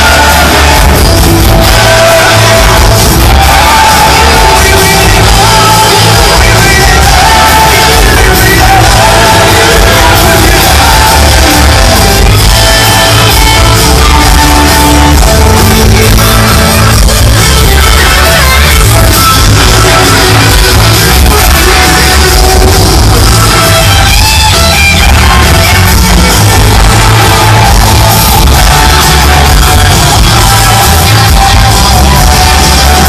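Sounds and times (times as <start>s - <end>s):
crowd yelling: 0.0s - 33.0s
live rock band playing: 0.0s - 33.0s.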